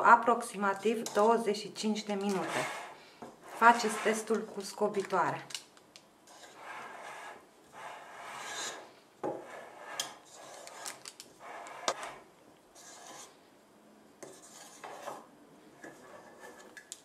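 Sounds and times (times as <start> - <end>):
spatula scraping cake batter: 0.0 - 5.1, 6.3 - 13.4, 14.2 - 17.0.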